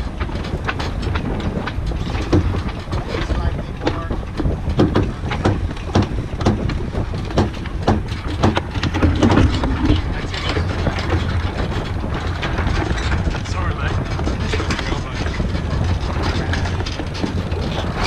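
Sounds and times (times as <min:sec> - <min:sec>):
steady low rumble: 0:00.0 - 0:18.0
winch clicking and knocking: 0:00.0 - 0:18.0.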